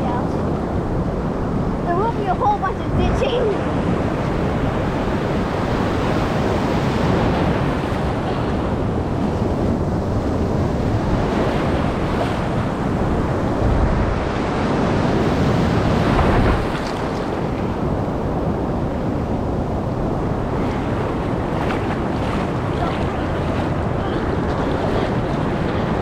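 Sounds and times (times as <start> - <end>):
ocean surf rushing and breaking: 0.0 - 26.0
wind buffeting microphone: 0.0 - 26.0.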